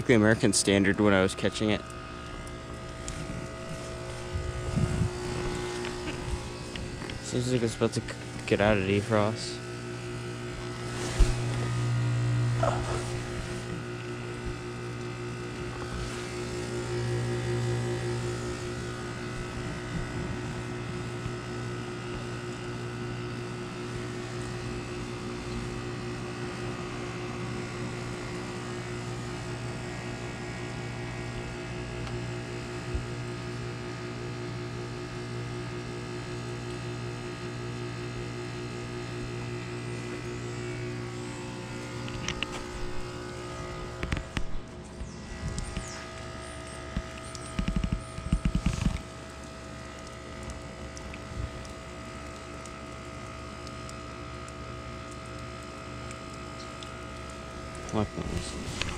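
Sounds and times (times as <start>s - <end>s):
heat pump compressor hum: 0.0s - 58.9s.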